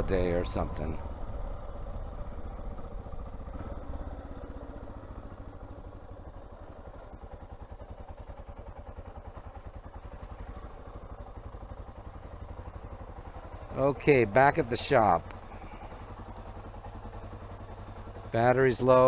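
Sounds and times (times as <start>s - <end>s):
motorcycle engine running at low revs: 0.0s - 19.0s.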